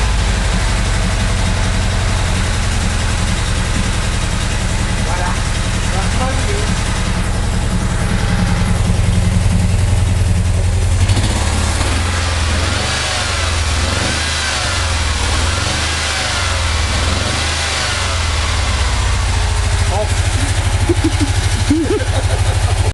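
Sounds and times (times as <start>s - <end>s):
engine running steadily: 0.0s - 22.9s.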